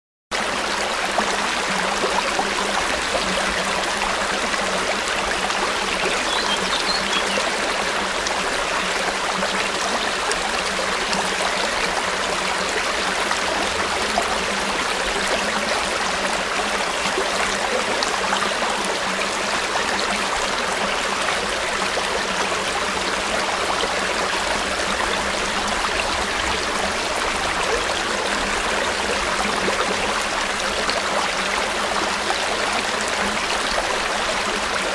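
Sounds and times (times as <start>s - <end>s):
river flowing over rocks: 0.4s - 34.9s.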